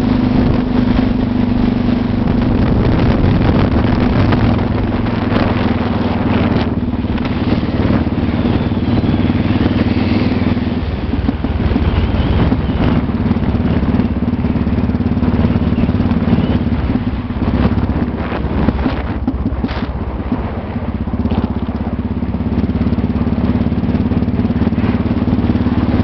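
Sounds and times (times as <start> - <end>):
continuous noisy rush: 0.0 - 26.0
motorcycle engine running: 0.0 - 26.0.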